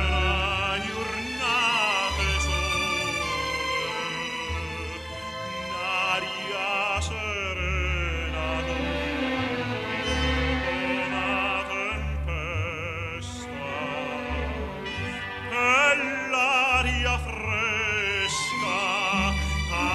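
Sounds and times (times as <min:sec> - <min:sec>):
operatic voice singing: 0:00.0 - 0:04.2, 0:05.7 - 0:09.4, 0:10.7 - 0:19.9
orchestral accompaniment: 0:00.0 - 0:19.9.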